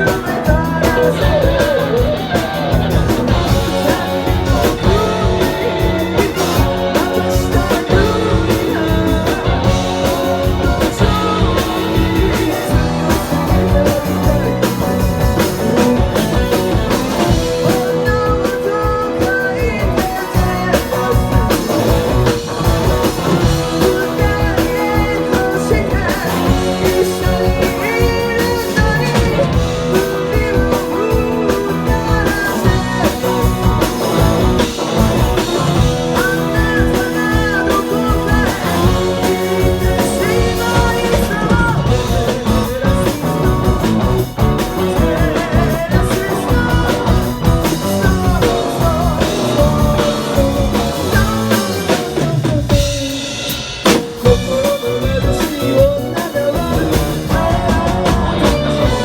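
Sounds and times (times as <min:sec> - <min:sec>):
guitar: 0:00.0 - 0:59.0
singer's voice: 0:00.0 - 0:59.0
steady drum beat: 0:00.0 - 0:59.0.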